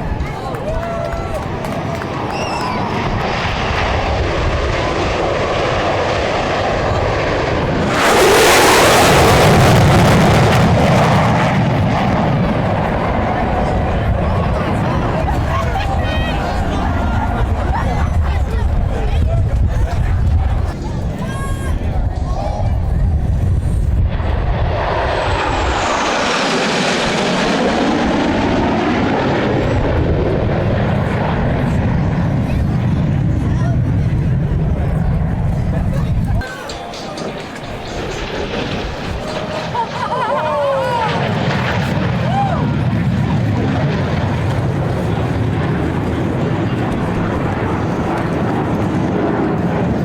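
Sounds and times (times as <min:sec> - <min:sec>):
aircraft engine roar: 0:00.0 - 0:50.0
airplane flying past: 0:00.0 - 0:50.0.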